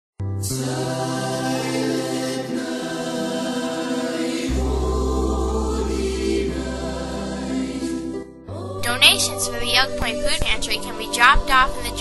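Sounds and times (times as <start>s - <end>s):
christmas music with singing: 0.4s - 12.0s.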